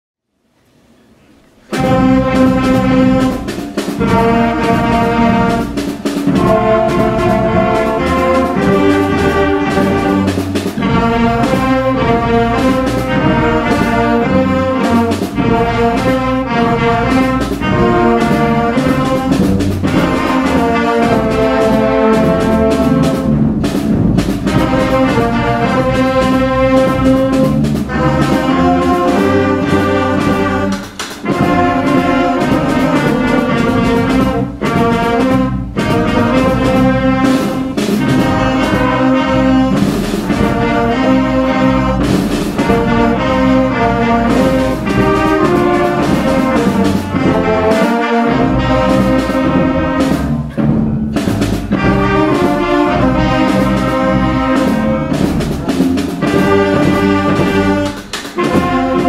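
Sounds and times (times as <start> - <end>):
school band playing rock tune: 1.6 - 59.0
steady drum beat: 1.6 - 59.0
held horn chords: 1.7 - 59.0.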